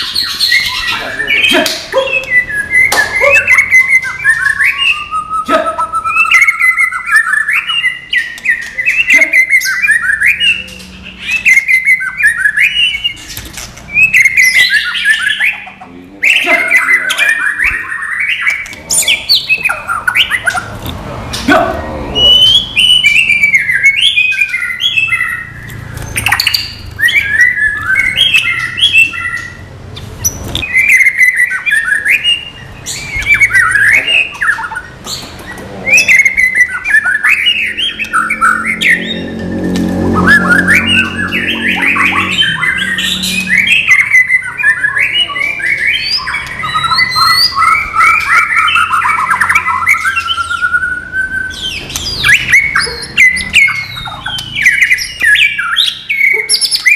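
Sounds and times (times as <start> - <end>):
bird singing: 0.0 - 56.9.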